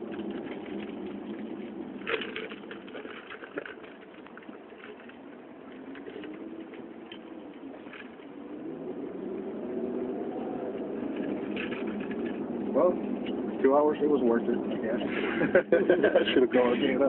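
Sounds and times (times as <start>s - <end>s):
car engine low rumble: 0.0s - 17.0s
road noise inside car: 0.0s - 17.0s.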